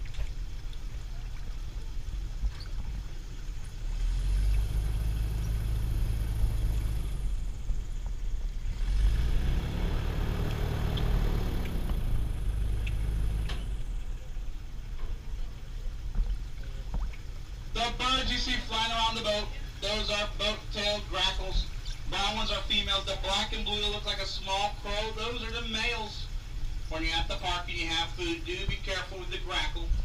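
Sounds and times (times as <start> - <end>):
boat engine humming: 0.0 - 30.0
wind and water hissing: 0.0 - 30.0.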